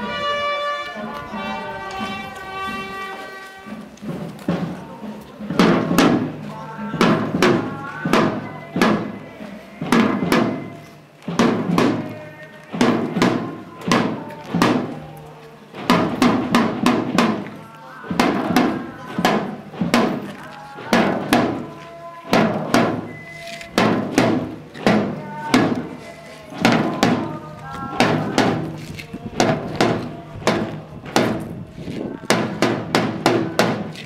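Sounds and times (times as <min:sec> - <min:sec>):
marching side drum: 0:00.0 - 0:34.0.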